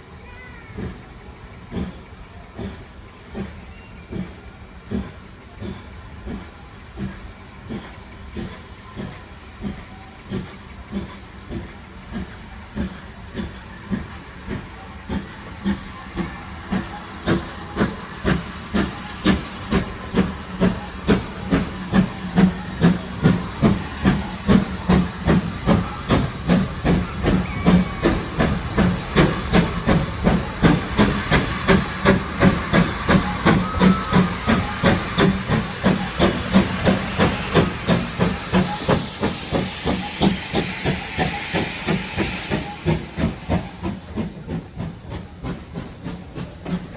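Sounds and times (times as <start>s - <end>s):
steam hissing: 0.0s - 46.9s
steam locomotive chuffing: 0.0s - 46.9s.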